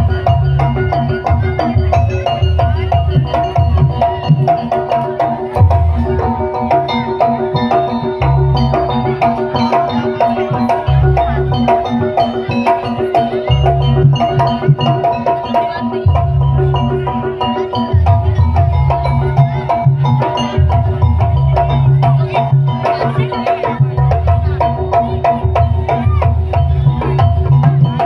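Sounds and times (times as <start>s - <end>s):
drums and mallet percussion: 0.0s - 28.0s.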